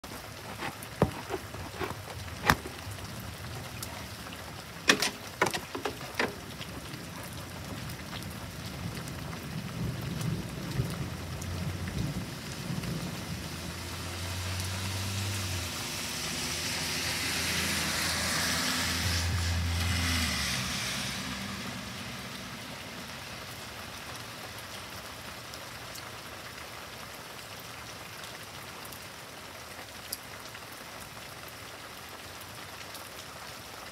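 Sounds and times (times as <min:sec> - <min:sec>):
heavy rain falling: 0:00.0 - 0:33.9
tyres hissing on wet road: 0:00.0 - 0:33.9.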